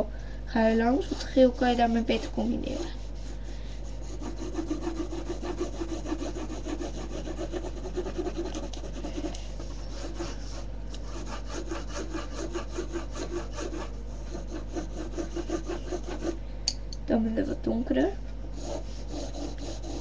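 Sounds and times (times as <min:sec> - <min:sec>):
pencil scratching on paper: 0:00.8 - 0:16.4, 0:18.6 - 0:20.0.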